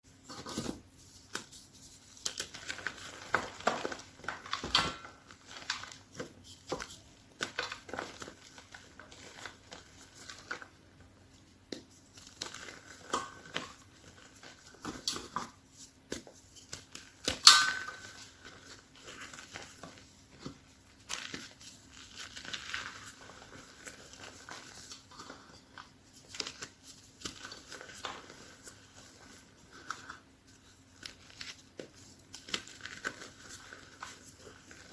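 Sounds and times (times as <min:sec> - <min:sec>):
chalk crumbling and snapping: 0:00.2 - 0:10.8, 0:11.7 - 0:34.9.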